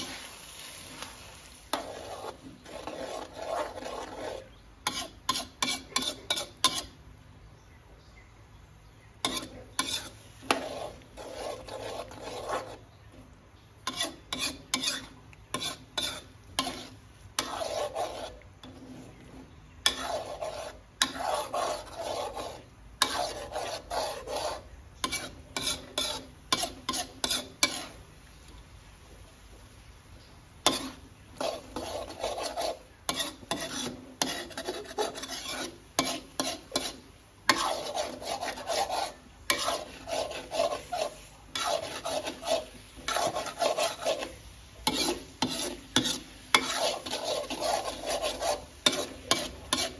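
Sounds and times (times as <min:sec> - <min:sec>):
metal spatula scraping a wok: 0:00.0 - 0:07.0, 0:09.2 - 0:28.1, 0:30.6 - 0:49.9.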